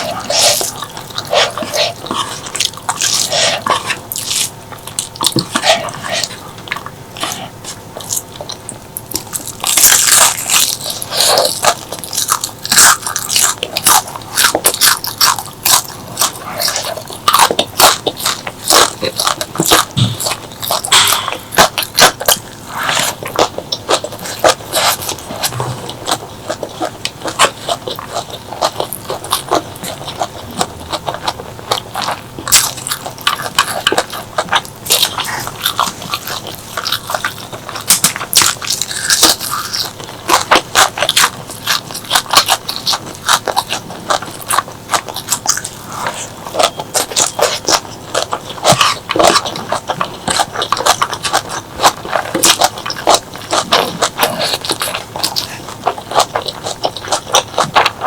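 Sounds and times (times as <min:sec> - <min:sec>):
crunchy eating and chewing: 0:00.0 - 0:58.0.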